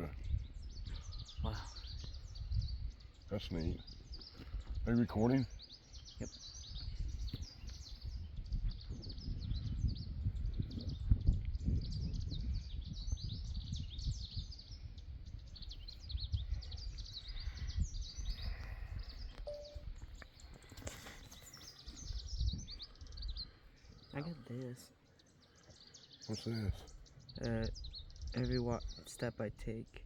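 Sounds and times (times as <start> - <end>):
birds and insects chirping: 0.0 - 30.0.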